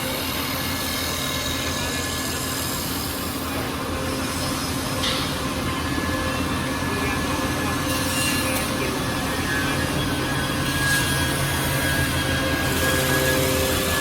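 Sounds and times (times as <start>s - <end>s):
wood lathe machine hum: 0.0s - 14.0s.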